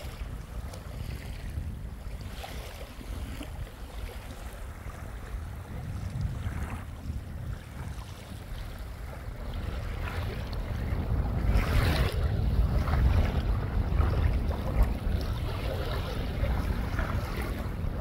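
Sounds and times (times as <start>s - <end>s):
small waves lapping: 0.0s - 18.0s
wind buffeting microphone: 0.0s - 18.0s.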